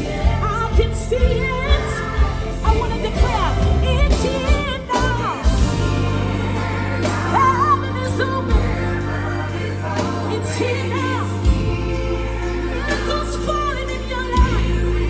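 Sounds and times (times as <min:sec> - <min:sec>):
bass line: 0:00.0 - 0:15.0
keyboard chords: 0:00.0 - 0:15.0.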